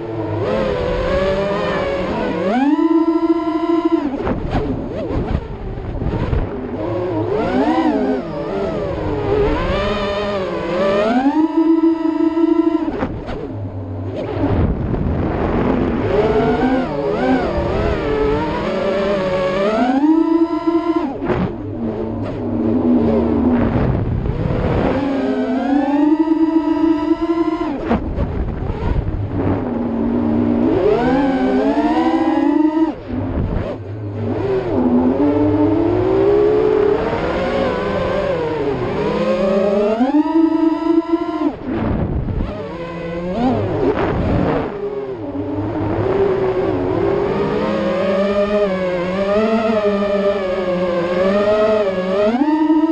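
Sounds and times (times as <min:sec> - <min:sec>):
drone motors whining: 0:00.0 - 0:52.9.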